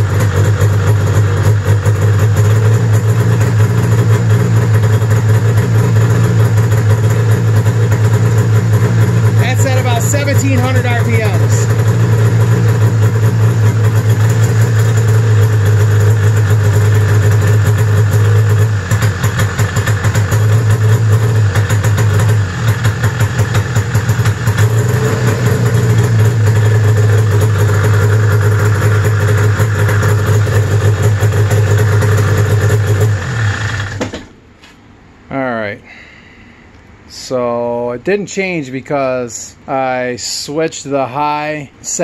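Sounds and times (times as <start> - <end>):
snowmobile engine idling: 0.0 - 34.3.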